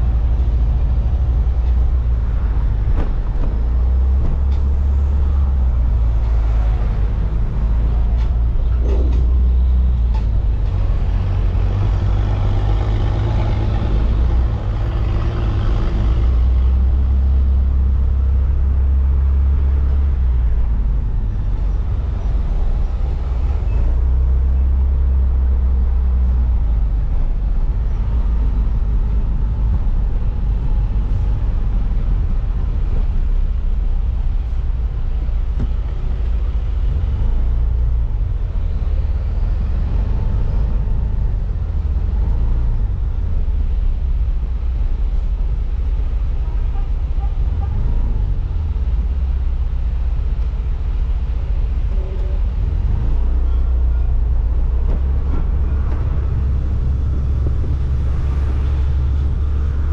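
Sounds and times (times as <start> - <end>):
vehicle road and engine rumble: 0.0 - 59.9.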